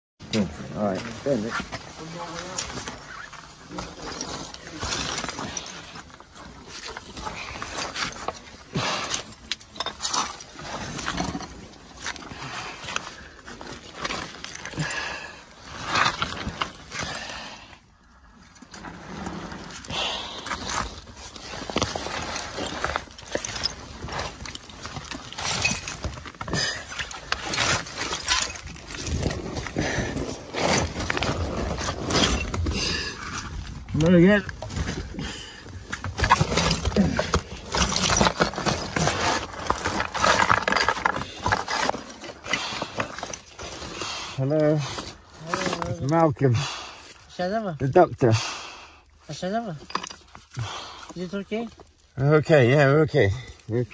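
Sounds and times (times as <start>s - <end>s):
rubble clattering and scraping: 0.2s - 48.4s, 49.0s - 53.9s.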